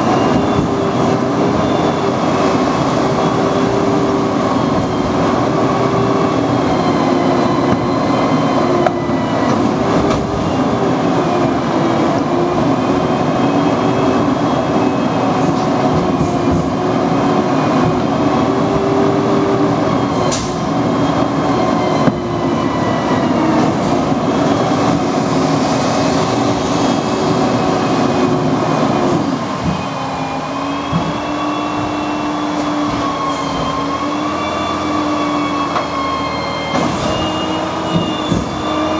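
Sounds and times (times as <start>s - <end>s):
truck engine drone: 0.0s - 38.9s.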